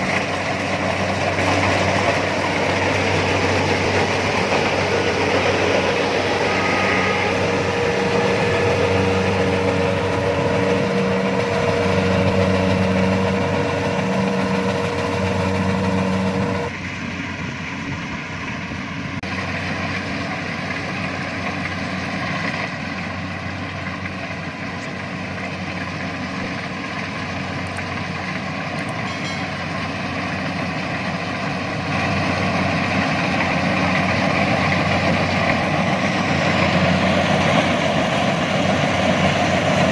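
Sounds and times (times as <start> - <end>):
diesel engine running: 0.0 - 39.9
steady whine: 0.0 - 39.9.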